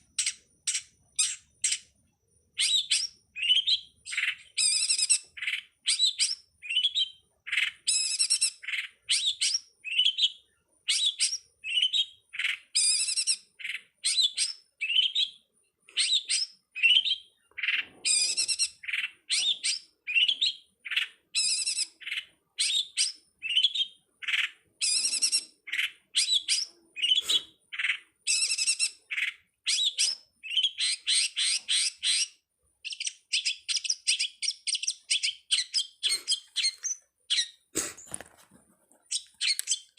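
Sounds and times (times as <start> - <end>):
songbird chirping: 0.0 - 38.3, 39.0 - 39.9.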